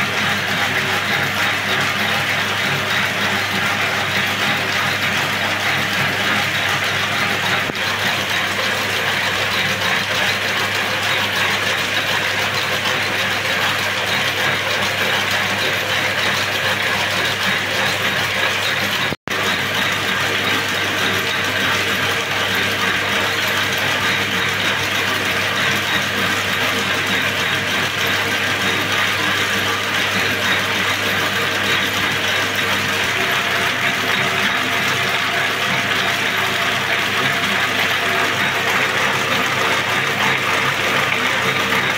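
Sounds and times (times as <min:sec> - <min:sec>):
braiding machine clattering: 0:00.0 - 0:41.9.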